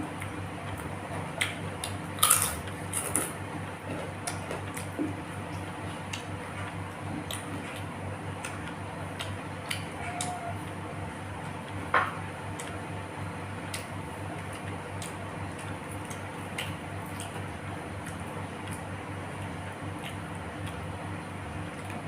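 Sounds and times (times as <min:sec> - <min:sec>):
steady low hum: 0:00.0 - 0:22.0
chewing and wet mouth sounds: 0:00.1 - 0:10.8, 0:13.6 - 0:22.0.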